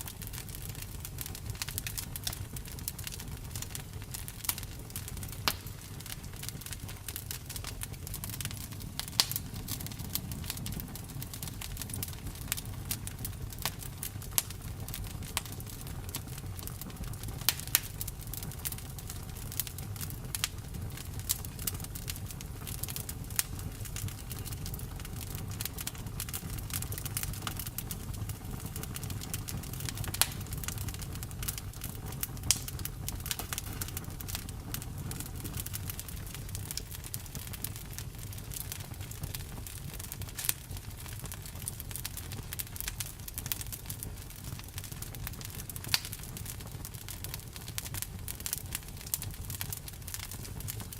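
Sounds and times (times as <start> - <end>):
campfire crackling and popping: 0.0 - 50.9
low rumble of flames: 0.0 - 50.9.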